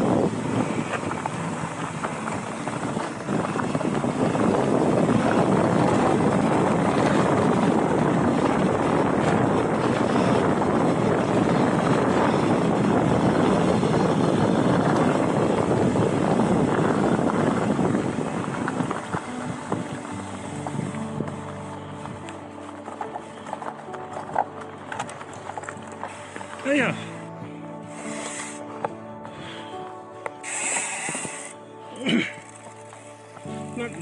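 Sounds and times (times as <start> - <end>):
wind rushing: 0.0 - 29.8
bike tyre and trail noise: 0.0 - 34.0.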